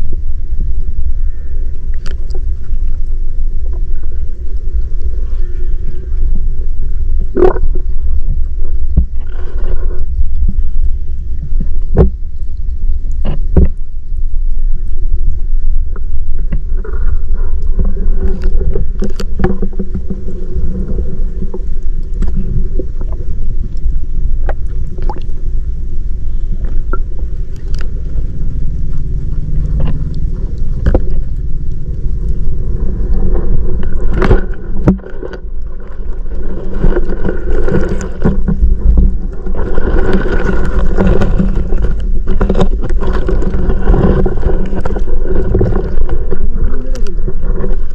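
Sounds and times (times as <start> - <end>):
muffled underwater rumble: 0.0 - 47.9.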